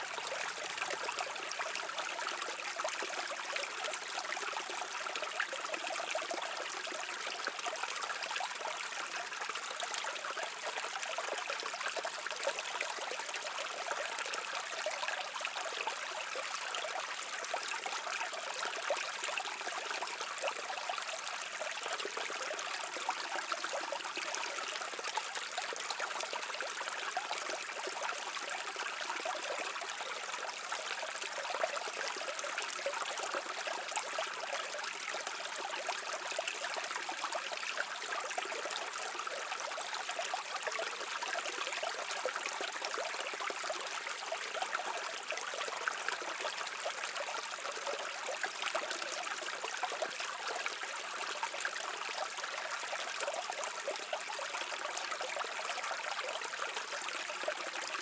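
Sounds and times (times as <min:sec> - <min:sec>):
brook water running over rocks: 0:00.0 - 0:58.0.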